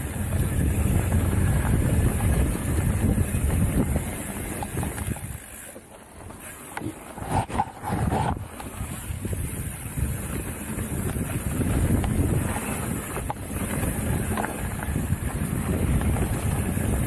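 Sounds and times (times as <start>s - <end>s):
wind buffeting microphone: 0.0s - 5.6s, 7.2s - 17.0s
light bike clicks: 0.0s - 7.7s, 8.4s - 17.0s
bike tyres rumbling on gravel: 0.0s - 17.0s.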